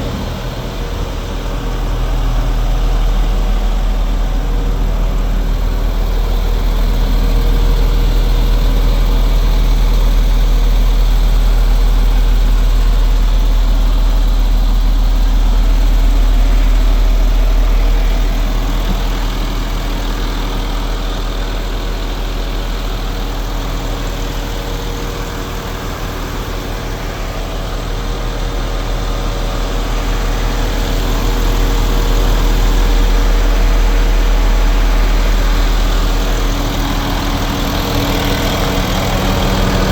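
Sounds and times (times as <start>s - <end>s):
truck diesel engine humming: 0.0s - 39.9s.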